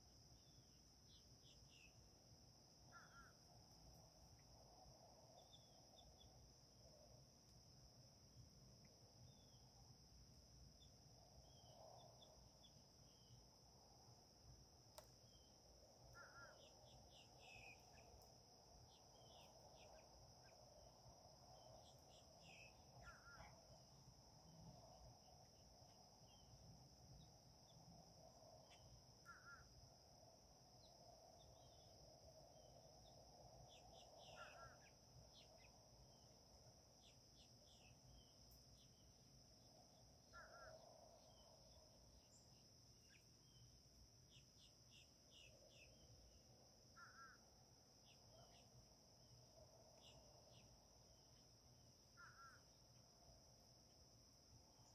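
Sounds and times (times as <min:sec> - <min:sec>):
insect drone: 0:00.0 - 0:54.9.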